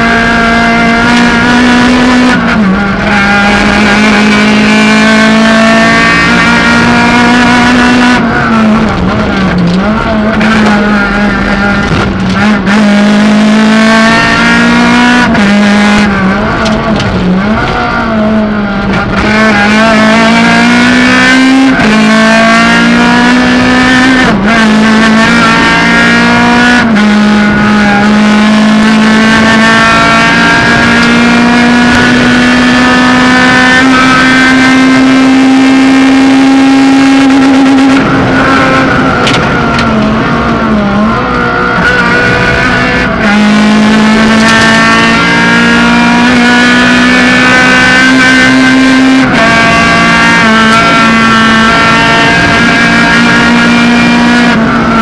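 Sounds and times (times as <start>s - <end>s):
rally car engine at high revs: 0.0s - 55.0s.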